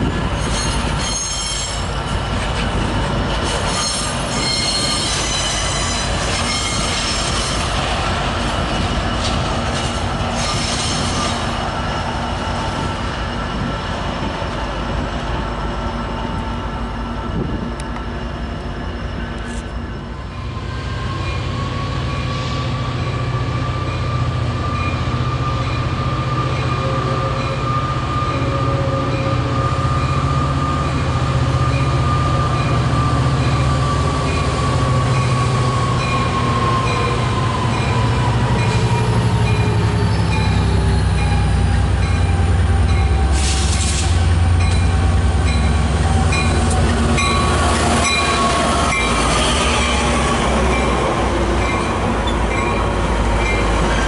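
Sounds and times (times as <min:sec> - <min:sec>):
diesel locomotive engine droning: 0:00.0 - 0:54.0.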